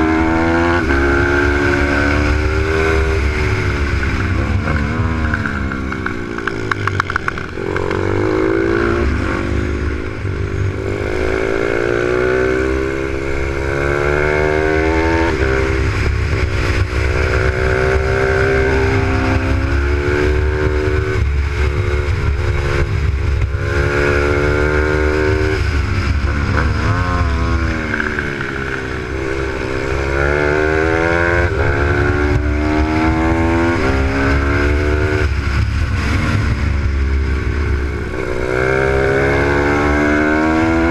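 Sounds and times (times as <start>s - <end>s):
motorbike engine revving: 0.0s - 40.9s
wind and road rumble: 0.0s - 40.9s.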